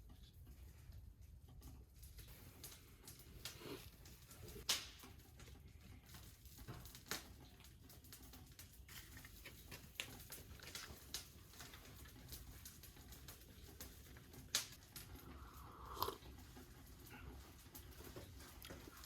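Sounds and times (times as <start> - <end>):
wood fire crackling: 0.0 - 19.0
fire popping: 0.1 - 19.0.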